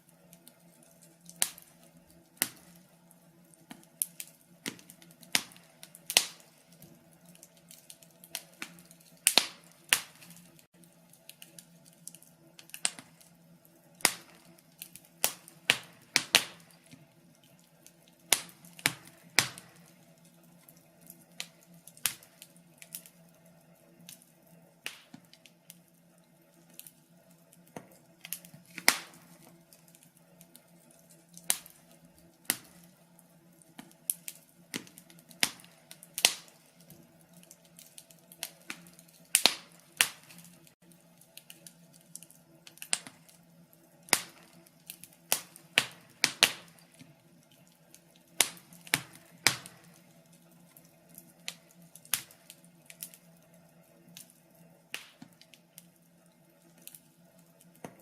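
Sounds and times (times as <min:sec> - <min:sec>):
faint steady hum: 0:00.0 - 0:58.0
wood fire crackling: 0:00.0 - 0:58.0.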